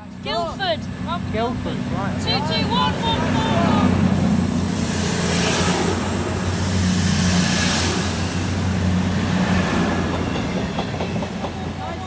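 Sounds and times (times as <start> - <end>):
diesel train engines droning: 0.0 - 12.0
rumble of train coaches: 0.0 - 12.0.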